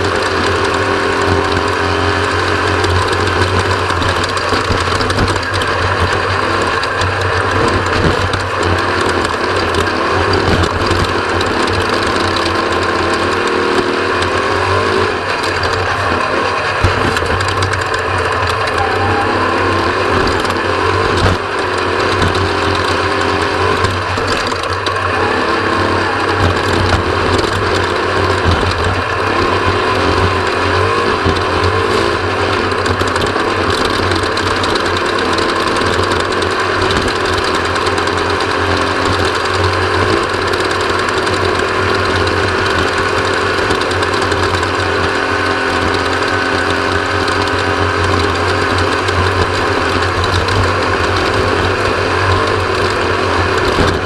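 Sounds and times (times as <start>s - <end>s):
race vehicle engine running: 0.0s - 54.0s
rattling: 0.0s - 54.0s
rushing noise of driving: 0.0s - 54.0s.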